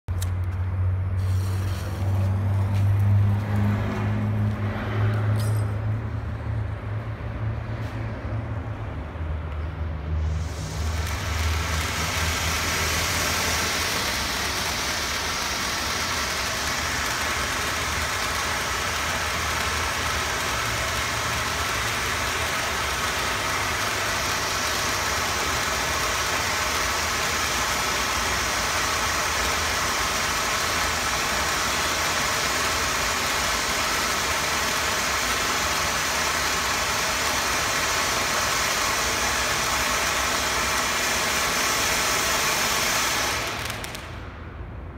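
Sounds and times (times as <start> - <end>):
firework fountain hissing: 1.0 - 5.6, 10.0 - 44.6.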